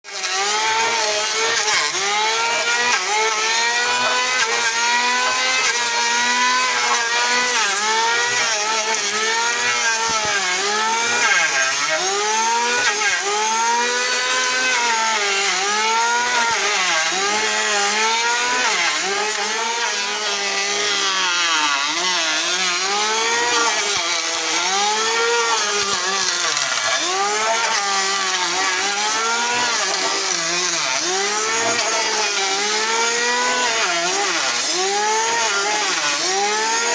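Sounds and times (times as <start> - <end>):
electric hand planer whining: 0.0 - 36.9.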